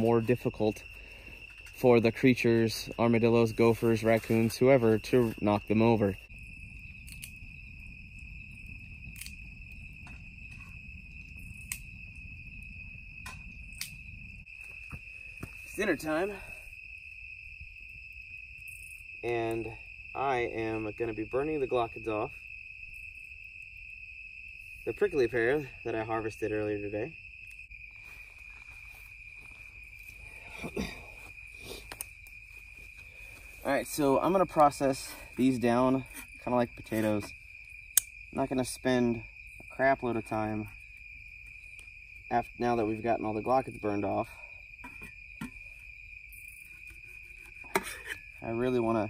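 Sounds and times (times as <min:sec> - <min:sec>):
campfire crackling: 0:00.0 - 0:49.0
crickets chirring: 0:00.0 - 0:49.0.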